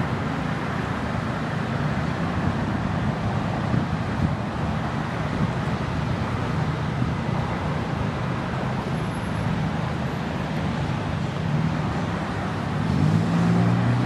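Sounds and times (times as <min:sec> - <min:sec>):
road traffic passing: 0:00.0 - 0:14.0
tyre and engine noise: 0:00.0 - 0:14.0.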